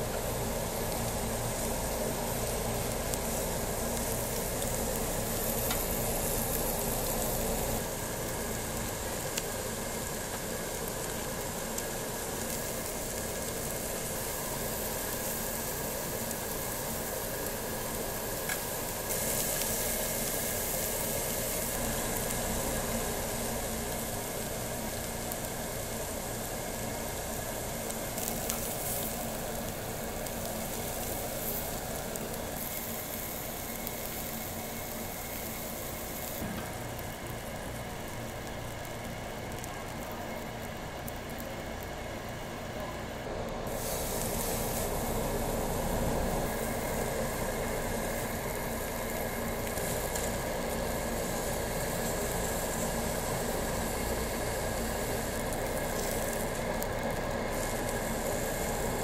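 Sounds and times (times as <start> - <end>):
pork sizzling on grill: 0.0 - 59.0.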